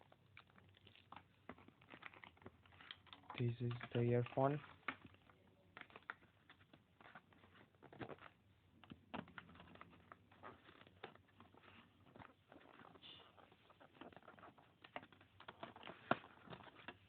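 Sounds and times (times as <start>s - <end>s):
earphones and packaging handled: 0.0s - 17.0s.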